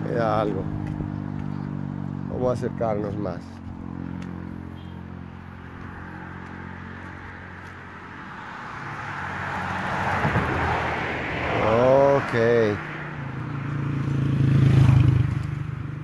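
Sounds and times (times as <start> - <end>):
vehicle approaching: 0.0 - 16.0.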